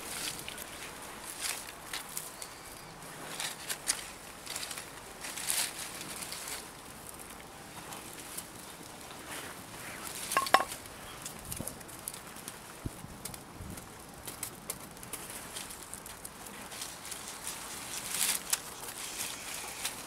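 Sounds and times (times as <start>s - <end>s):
dry leaves and twigs crackling: 0.0s - 20.0s.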